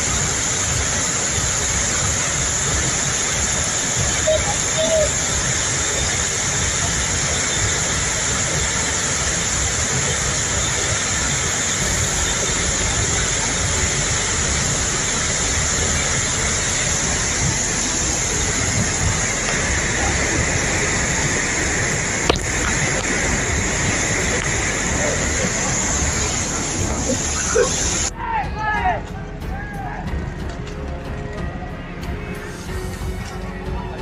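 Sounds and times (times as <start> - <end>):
mudflow rushing: 0.0 - 28.1.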